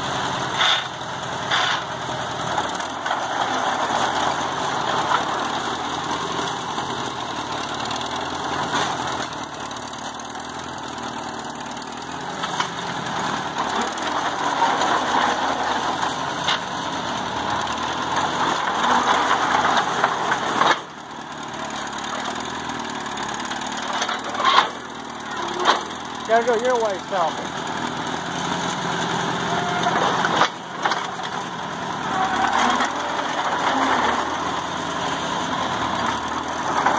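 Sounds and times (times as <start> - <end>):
engine idling: 0.0 - 36.9.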